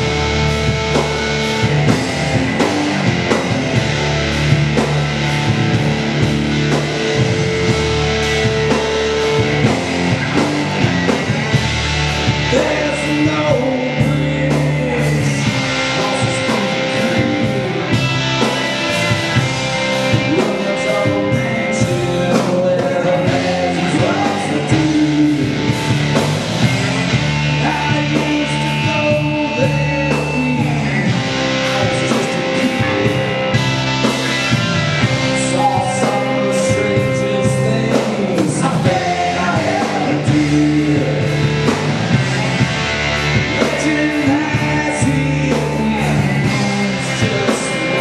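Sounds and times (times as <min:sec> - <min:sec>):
bass guitar: 0:00.0 - 0:48.0
drum kit beat: 0:00.0 - 0:48.0
electric guitars: 0:00.0 - 0:48.0
lead guitar line bending: 0:00.0 - 0:48.0.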